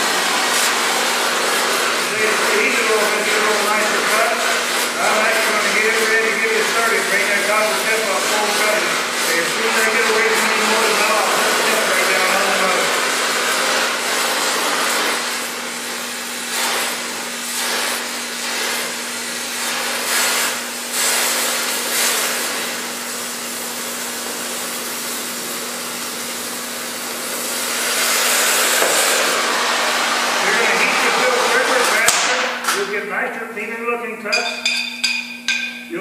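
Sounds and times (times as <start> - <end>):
cutting torch hissing: 0.0 - 32.6.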